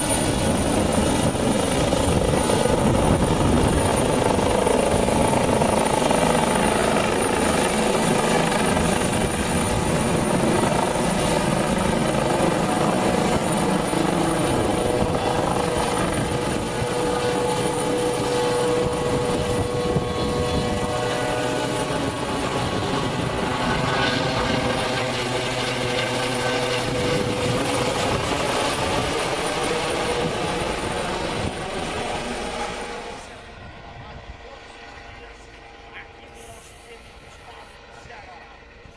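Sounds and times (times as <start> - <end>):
helicopter hovering overhead: 0.0 - 38.9
high turbine whine: 0.0 - 38.9.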